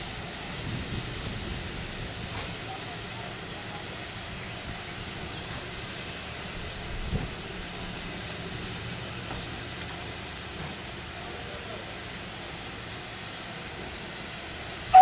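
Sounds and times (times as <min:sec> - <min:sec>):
train hiss and rumble: 0:00.0 - 0:15.0.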